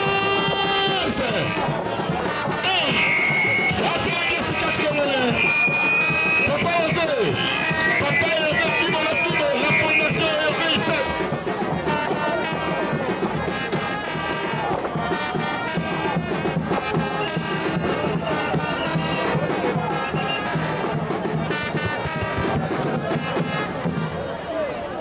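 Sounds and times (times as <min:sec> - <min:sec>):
brass music: 0:00.0 - 0:24.7.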